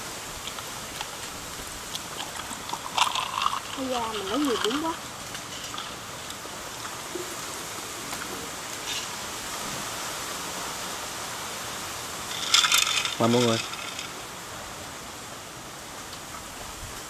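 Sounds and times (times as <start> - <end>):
breeze through trees: 0.0 - 17.0.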